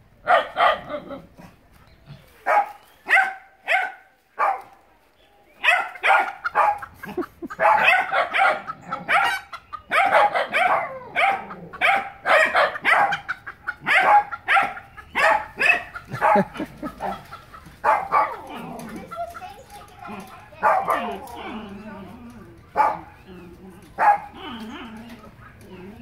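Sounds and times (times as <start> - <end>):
dog barking excitedly: 0.2 - 1.5, 2.4 - 4.7, 5.6 - 21.8, 22.7 - 26.0.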